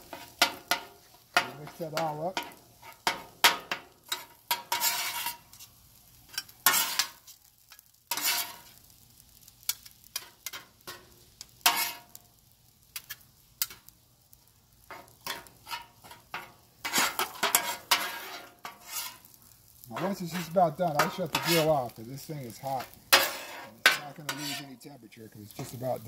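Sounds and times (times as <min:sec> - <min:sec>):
metal spatulas scraping on griddle: 0:00.0 - 0:12.2, 0:12.9 - 0:13.9, 0:14.8 - 0:26.0
light sizzle: 0:00.0 - 0:26.0.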